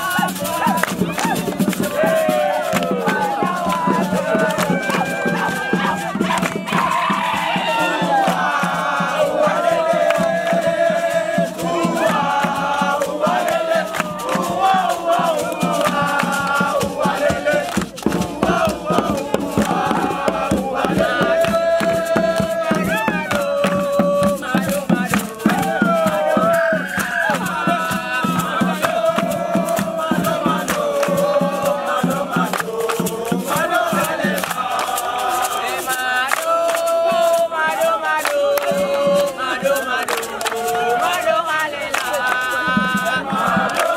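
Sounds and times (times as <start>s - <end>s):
group singing and chanting: 0.0s - 43.9s
sharp percussive beats: 0.0s - 43.9s.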